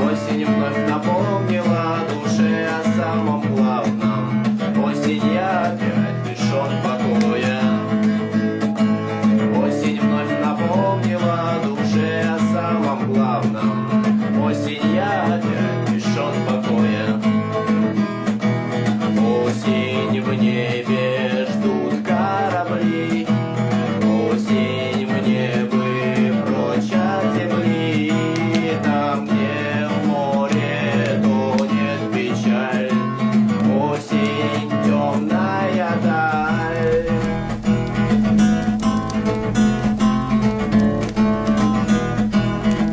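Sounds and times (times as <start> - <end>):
acoustic guitar strumming: 0.0 - 42.9.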